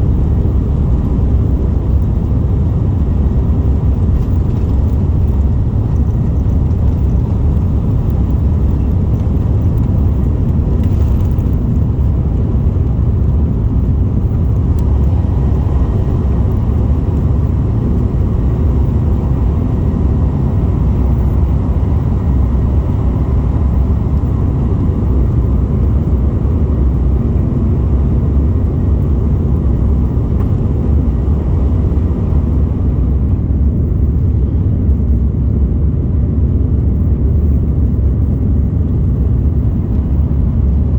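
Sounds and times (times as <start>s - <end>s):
jet engines and rushing air: 0.0s - 40.9s.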